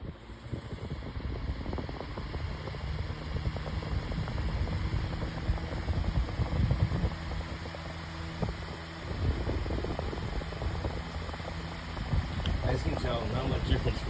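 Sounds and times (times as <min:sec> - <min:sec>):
fan rush of moving air: 0:00.0 - 0:14.0
low motor hum: 0:00.0 - 0:14.0.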